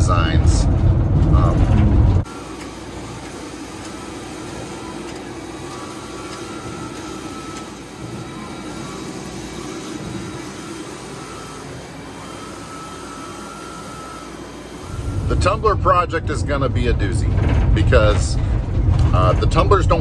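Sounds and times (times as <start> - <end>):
road noise inside a van: 0.0 - 20.0
printer whirring: 2.2 - 20.0.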